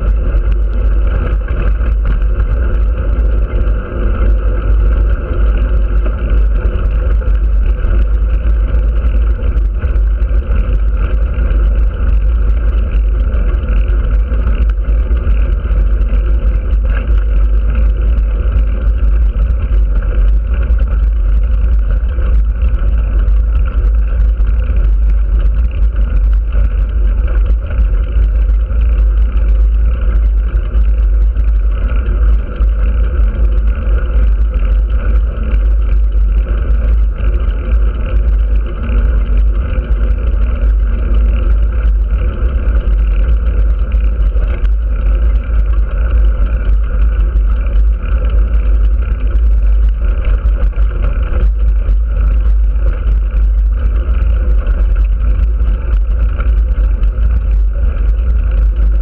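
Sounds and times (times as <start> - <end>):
drone of travel noise: 0.0 - 59.0
wind rumble on microphone: 0.0 - 59.0.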